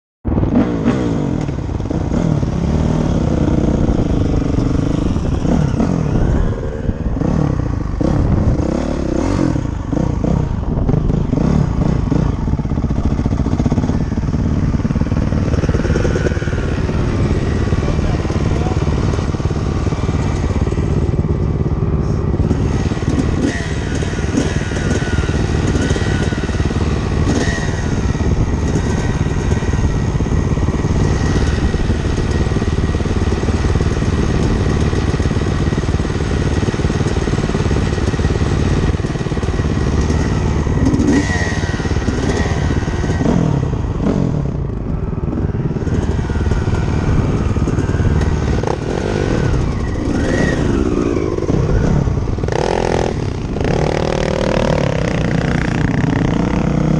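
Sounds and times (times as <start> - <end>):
dirt bike engine running: 0.2 - 56.9.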